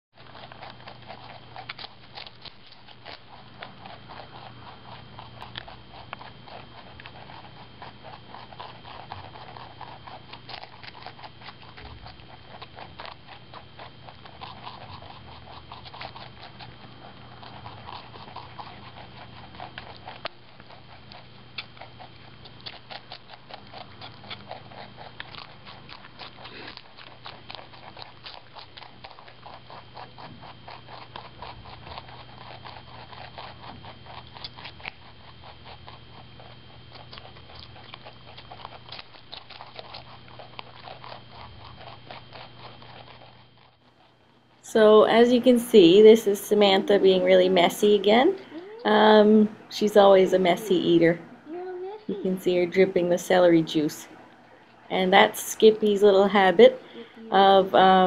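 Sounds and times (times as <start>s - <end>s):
rabbits crunching celery: 0.2s - 51.4s
steady low hum: 0.2s - 58.0s.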